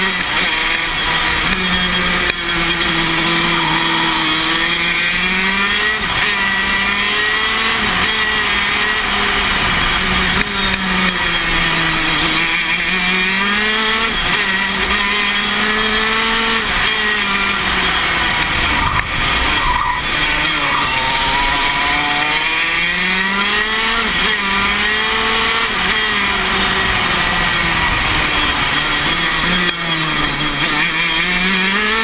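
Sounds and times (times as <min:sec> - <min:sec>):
kart engine revving: 0:00.0 - 0:32.0.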